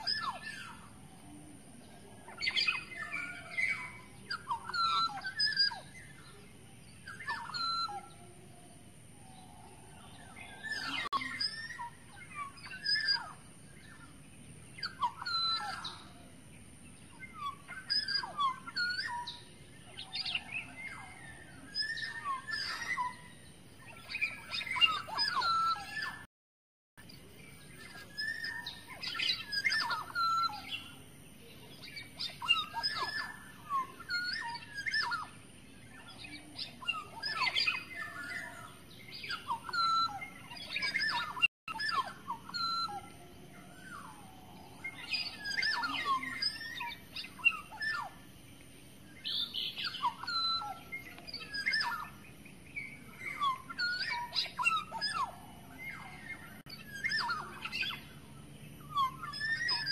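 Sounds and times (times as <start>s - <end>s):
oriole whistling and chattering: 0.0s - 8.4s, 9.2s - 16.4s, 17.0s - 26.3s, 27.3s - 48.3s, 49.1s - 59.9s.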